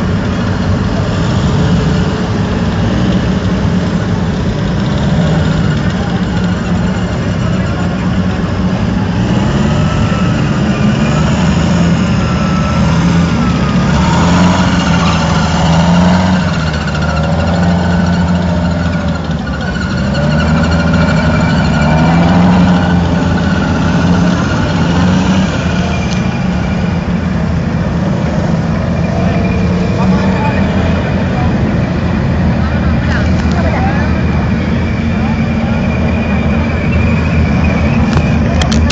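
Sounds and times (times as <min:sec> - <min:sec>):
tracked vehicle engines passing: 0:00.0 - 0:38.9.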